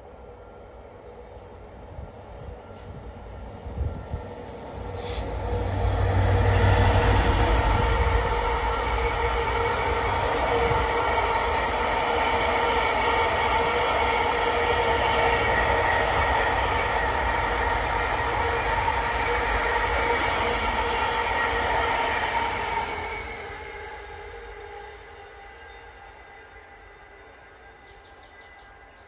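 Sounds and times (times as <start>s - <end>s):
freight train rolling past: 0.0s - 29.0s.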